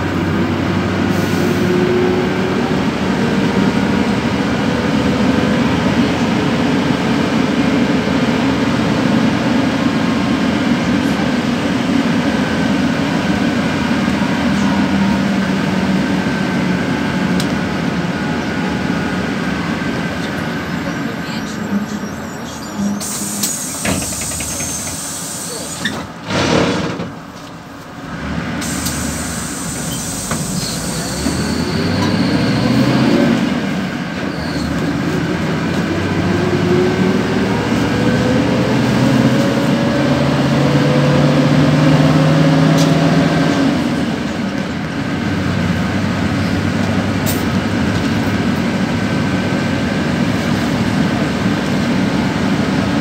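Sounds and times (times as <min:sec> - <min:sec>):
bus engine: 0:00.0 - 0:53.0.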